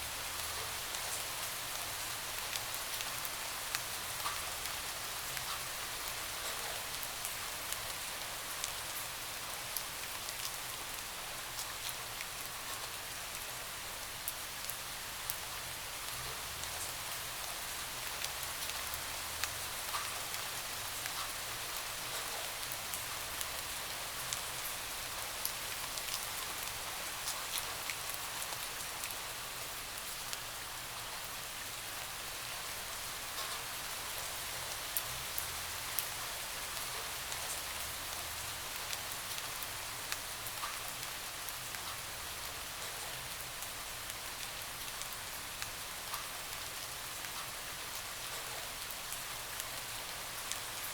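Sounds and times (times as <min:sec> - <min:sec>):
rain pattering on a window: 0:00.0 - 0:50.9.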